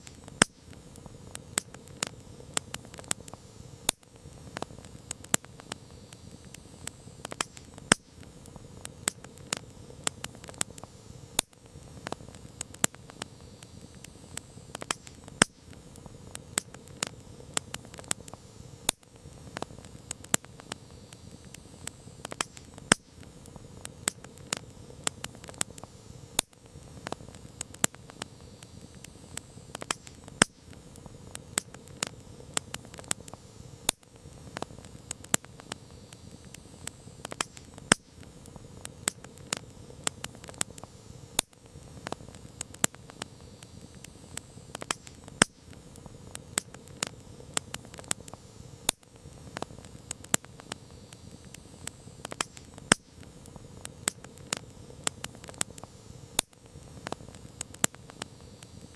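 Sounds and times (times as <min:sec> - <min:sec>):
burning wood popping and snapping: 0:00.0 - 0:58.9
low hiss of flames: 0:00.0 - 0:58.9.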